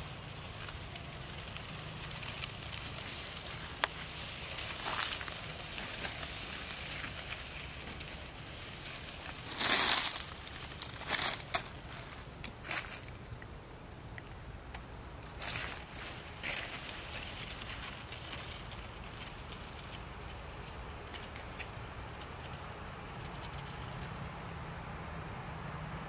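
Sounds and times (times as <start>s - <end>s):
dry leaves rustling and crunching: 0.0s - 13.4s, 15.2s - 24.3s
low steady hum: 0.0s - 26.0s.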